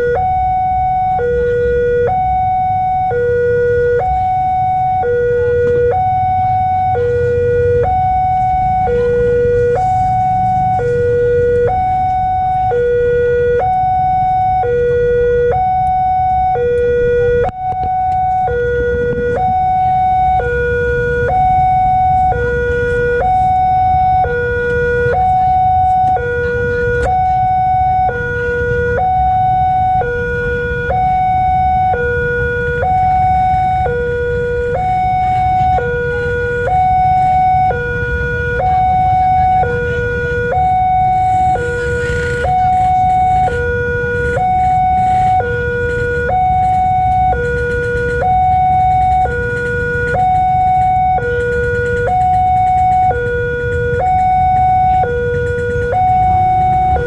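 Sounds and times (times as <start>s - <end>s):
low rumble of idling traffic: 0.0s - 57.0s
two-tone level crossing alarm: 0.0s - 57.0s.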